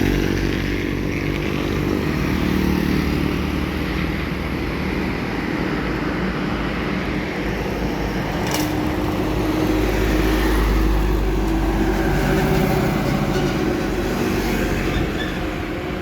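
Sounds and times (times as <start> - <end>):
heavy trucks passing: 0.0 - 16.0.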